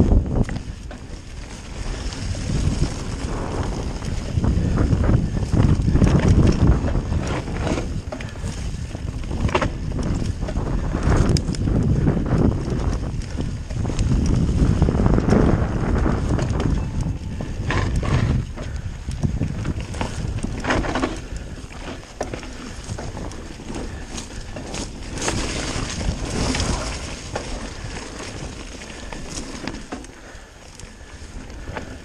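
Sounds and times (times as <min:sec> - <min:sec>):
mountain bike rumbling and rattling: 0:00.0 - 0:32.0
wind buffeting microphone: 0:00.0 - 0:32.0.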